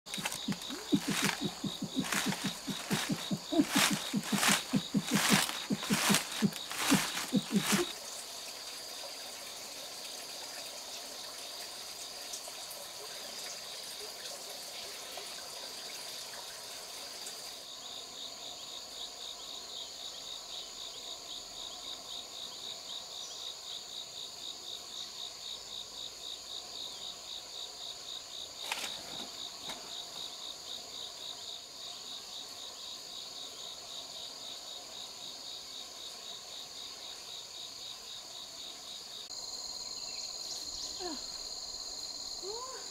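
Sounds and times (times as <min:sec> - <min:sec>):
crickets and insects chirring: 0:00.1 - 0:42.9.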